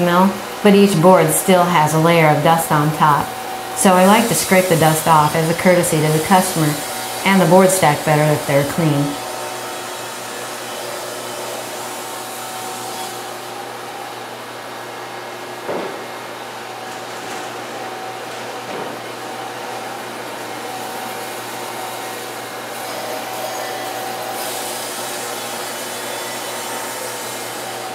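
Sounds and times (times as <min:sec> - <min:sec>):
bandsaw mill whirring: 0:00.0 - 0:15.3, 0:16.1 - 0:27.9
dust collection blower: 0:00.0 - 0:27.9.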